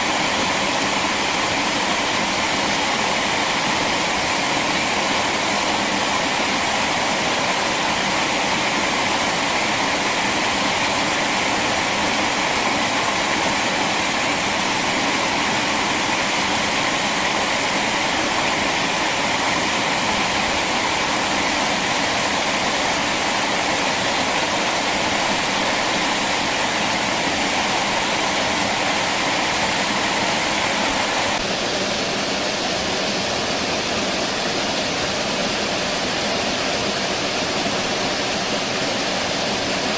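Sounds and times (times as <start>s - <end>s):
rushing flowing water: 0.0s - 39.9s.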